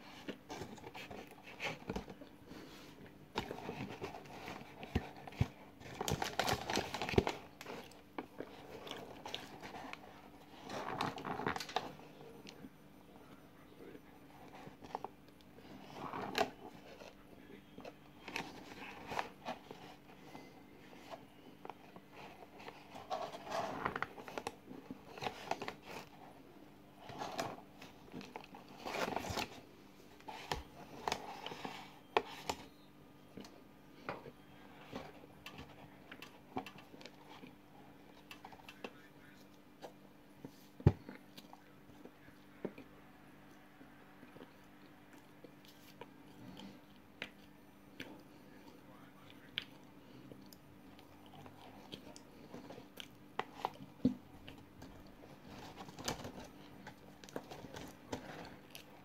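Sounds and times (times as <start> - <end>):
soft crunching and chewing: 0.0 - 59.0.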